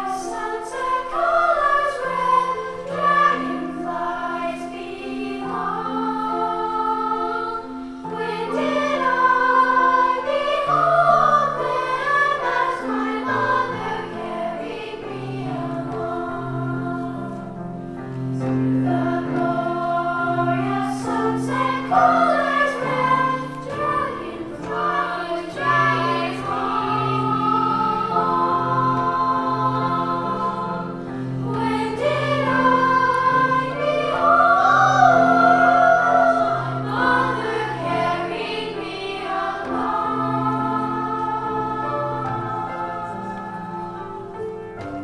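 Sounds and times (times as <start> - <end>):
choir singing sacred song: 0.0 - 45.0
held low accompanying notes: 0.0 - 45.0.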